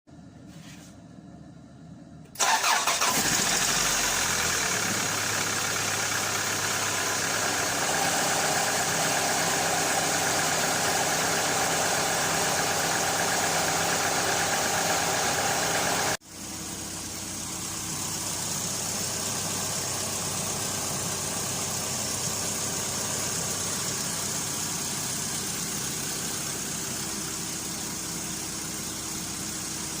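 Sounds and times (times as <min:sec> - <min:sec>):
car engine cranking and running: 0:02.3 - 0:30.0.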